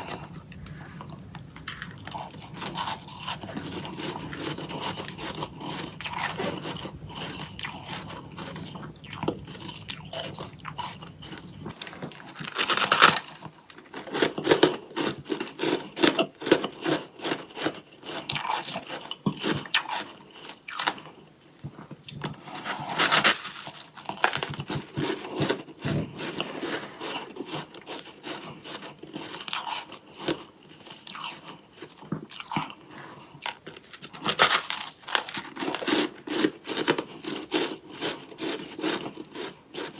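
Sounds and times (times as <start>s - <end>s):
crunchy biting and chewing of frost: 0.0s - 21.1s, 22.0s - 39.9s.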